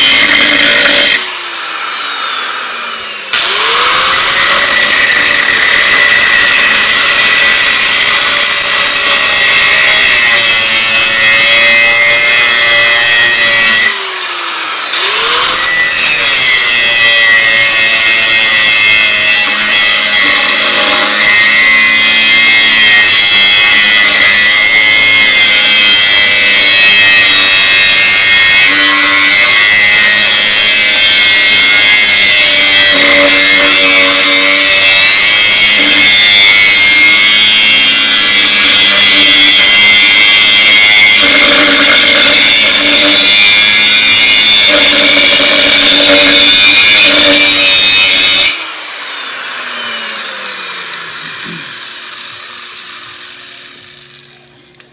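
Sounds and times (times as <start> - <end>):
angle grinder cutting steel: 0.0 - 54.9.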